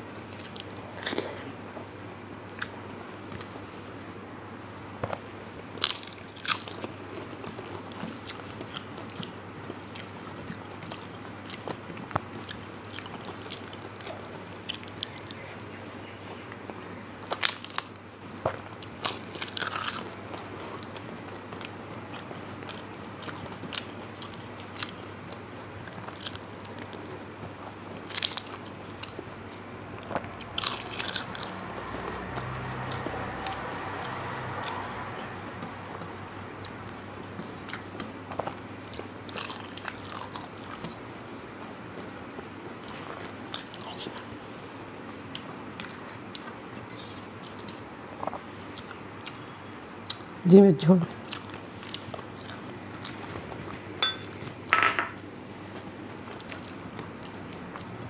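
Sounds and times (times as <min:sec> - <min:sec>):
steady low hum: 0:00.0 - 0:58.0
person chewing food: 0:05.0 - 0:50.3, 0:51.2 - 0:54.6, 0:55.7 - 0:58.0.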